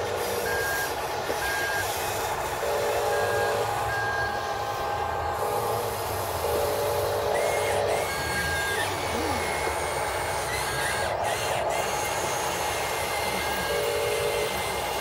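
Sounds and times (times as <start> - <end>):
toy excavator motors whirring: 0.0 - 15.0.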